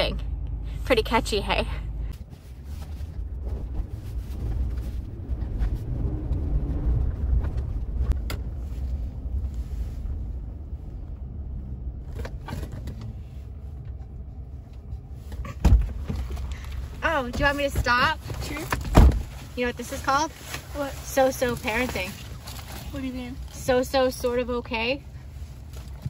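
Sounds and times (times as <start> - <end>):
truck cab rumble: 0.0 - 26.0.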